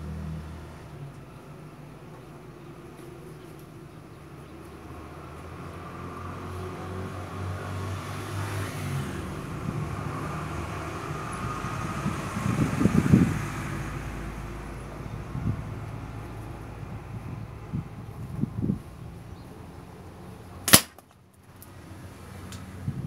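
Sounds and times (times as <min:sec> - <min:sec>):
vehicle engine passing: 0:00.0 - 0:20.6.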